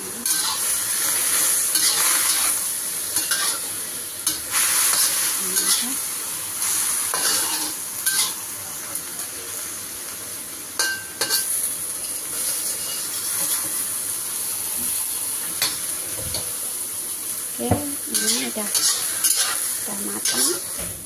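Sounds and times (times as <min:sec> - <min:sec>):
vegetables sizzling in a wok: 0:00.0 - 0:21.0.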